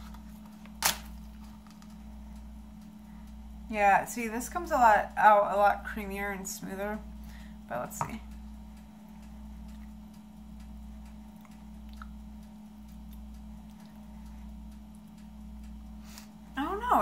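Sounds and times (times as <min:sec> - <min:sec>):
low pulsing hum: 0:00.0 - 0:17.0.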